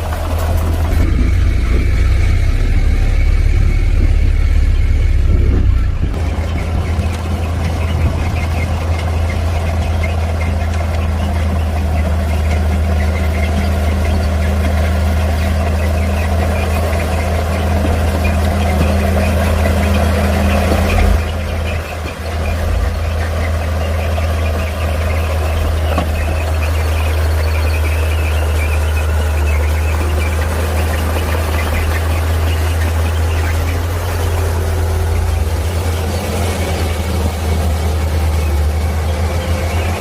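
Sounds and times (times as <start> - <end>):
heavy diesel engine humming: 0.0 - 40.0.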